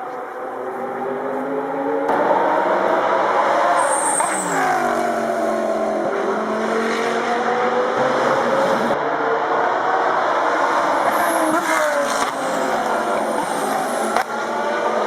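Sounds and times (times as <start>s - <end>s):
race car engine at high revs: 0.7s - 15.0s.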